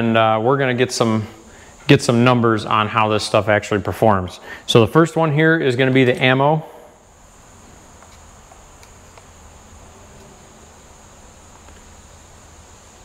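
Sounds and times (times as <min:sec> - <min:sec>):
high-pitched electrical whine: 0:00.0 - 0:13.0
low hum: 0:00.0 - 0:13.0.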